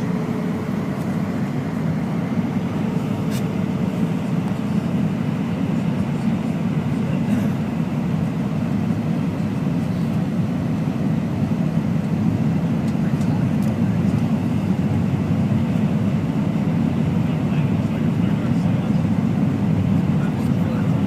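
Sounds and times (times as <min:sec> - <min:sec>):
airliner engines roaring: 0:00.0 - 0:21.0.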